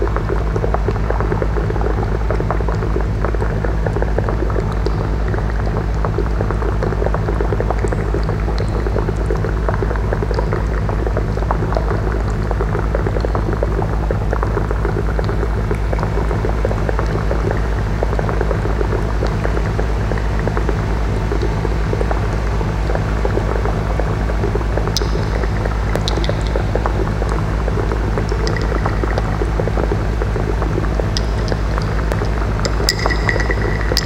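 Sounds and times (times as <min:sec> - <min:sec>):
crackling bubbling water: 0:00.0 - 0:34.0
pulsing low electronic drone: 0:00.0 - 0:34.0.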